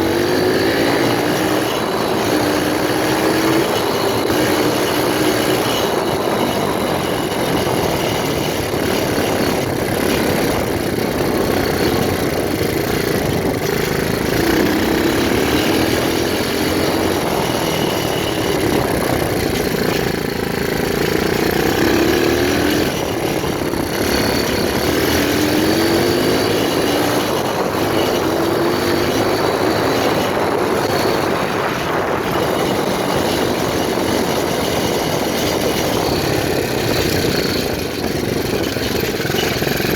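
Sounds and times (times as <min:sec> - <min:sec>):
motorbike engine revving: 0:00.0 - 0:39.9
steady rushing noise: 0:00.0 - 0:39.9.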